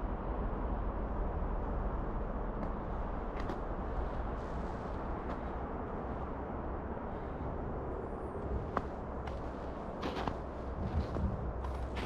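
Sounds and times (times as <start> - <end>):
low rumbling outdoor noise: 0.0 - 12.0.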